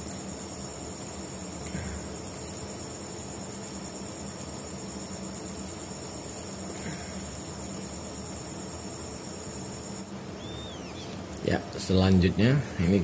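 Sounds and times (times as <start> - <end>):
crickets chirping: 0.0 - 11.7.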